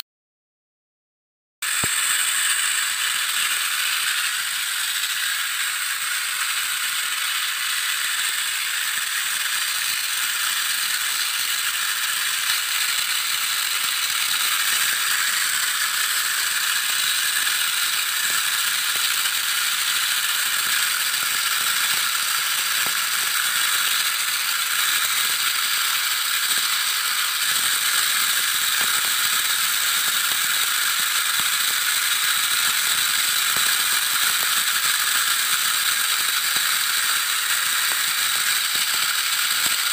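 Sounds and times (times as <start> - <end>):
toy tanks whirring and rattling: 1.6 - 39.9.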